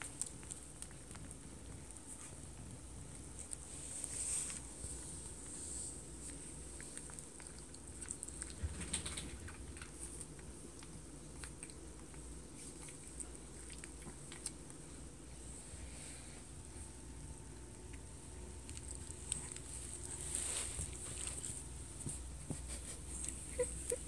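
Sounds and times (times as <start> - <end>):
puppy suckling clicks and rustling: 0.0 - 15.3, 17.5 - 24.0.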